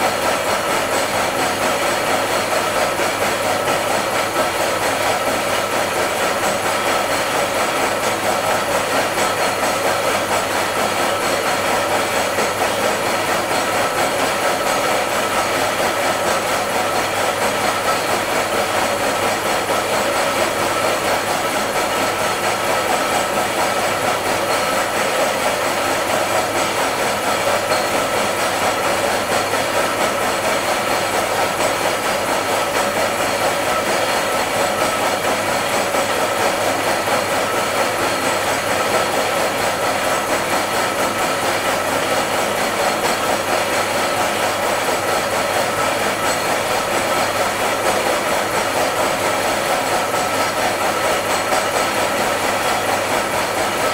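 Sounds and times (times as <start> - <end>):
milling machine cutting metal: 0.0 - 53.9.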